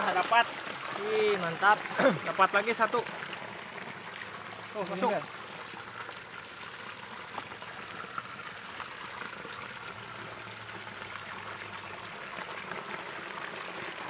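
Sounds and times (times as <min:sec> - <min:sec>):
small water splashes: 0:00.0 - 0:14.0
stream water trickling: 0:00.0 - 0:14.0.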